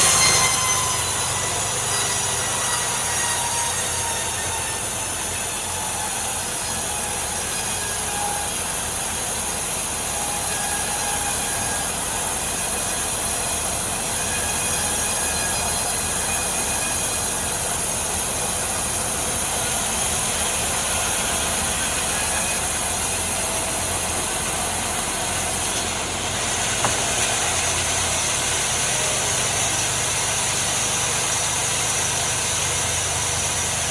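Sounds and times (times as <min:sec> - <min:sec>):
sawmill saw cutting log: 0:00.0 - 0:33.9.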